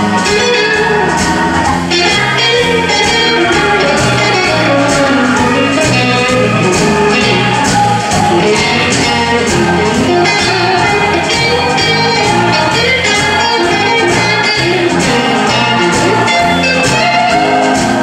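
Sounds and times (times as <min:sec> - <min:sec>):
drums keeping steady beat: 0:00.0 - 0:18.0
electric guitar: 0:00.0 - 0:18.0.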